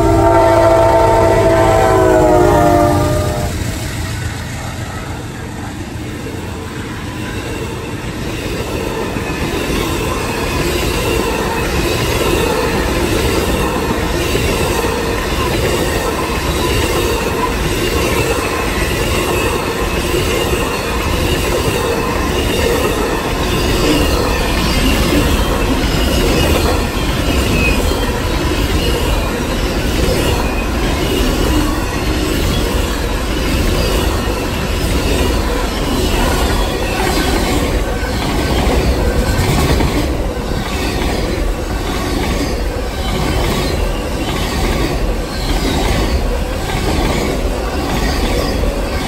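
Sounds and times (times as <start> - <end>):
train wheels clattering over rails: 3.6 - 49.0.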